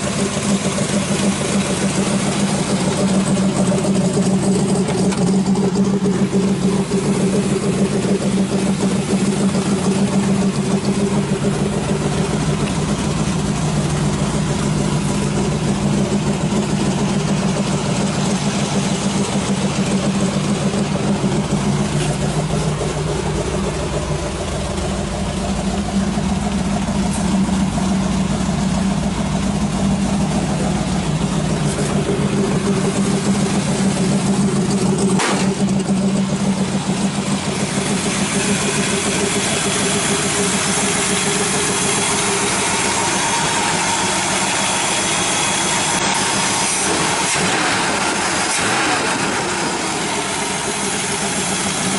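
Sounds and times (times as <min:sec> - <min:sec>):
truck engine idling: 0:00.0 - 0:51.9.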